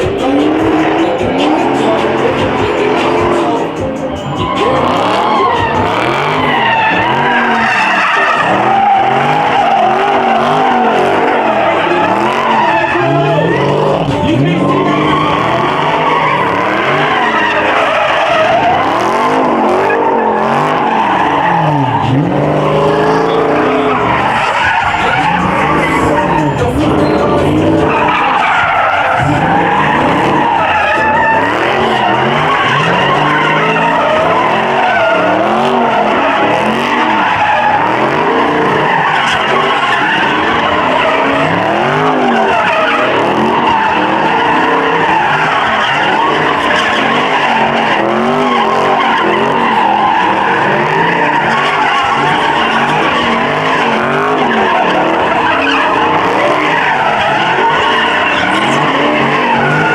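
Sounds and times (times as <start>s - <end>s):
car engine revving: 0.0s - 59.9s
tyres squealing: 0.0s - 59.9s.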